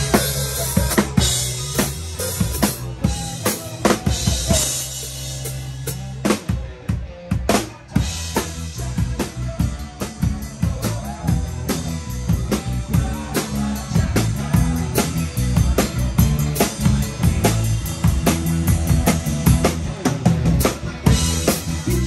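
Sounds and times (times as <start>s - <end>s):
bass notes: 0.0s - 22.0s
rock band playing: 0.0s - 22.0s.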